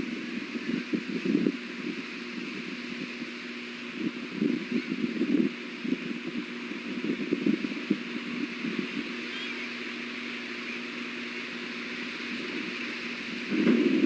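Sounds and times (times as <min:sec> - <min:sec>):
low hum and hiss: 0:00.0 - 0:14.0
wind buffeting microphone: 0:00.0 - 0:14.0.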